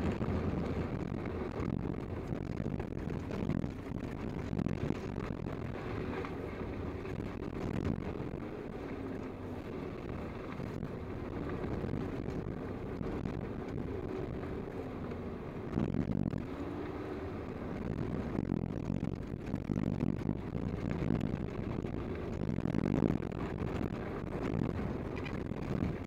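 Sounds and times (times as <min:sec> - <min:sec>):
engine and tyres on dirt: 0:00.0 - 0:26.0.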